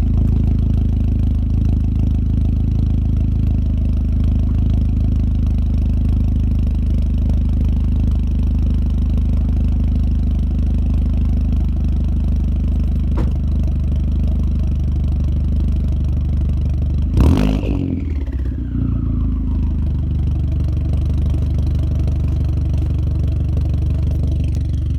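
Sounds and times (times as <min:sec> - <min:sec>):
vehicle engine idling: 0:00.0 - 0:24.9.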